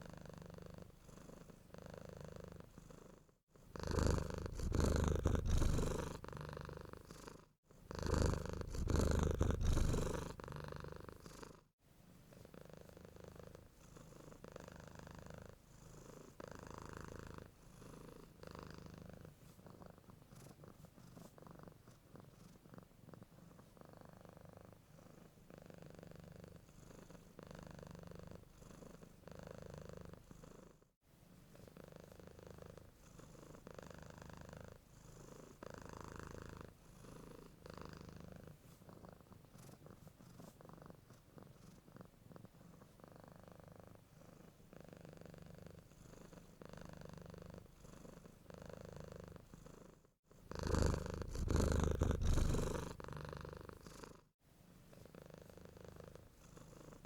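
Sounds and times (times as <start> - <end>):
cat purring: 0.0 - 30.9, 31.5 - 57.0.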